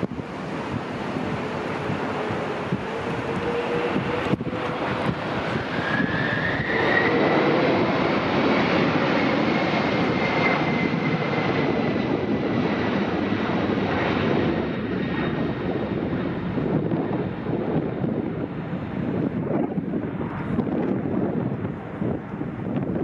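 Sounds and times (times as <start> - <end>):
jet engines rushing with high whine: 0.0 - 23.0.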